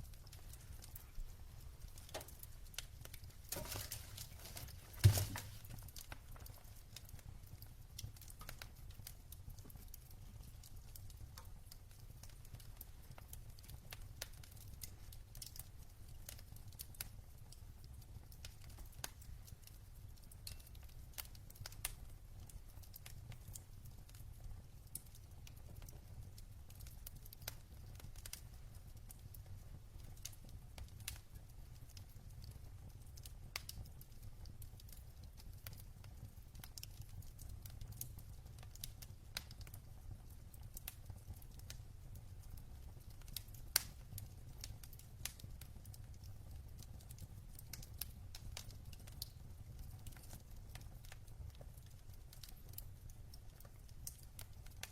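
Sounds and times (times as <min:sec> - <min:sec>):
logs crackling and popping: 0:00.0 - 0:54.9
low fire rumble: 0:00.0 - 0:54.9.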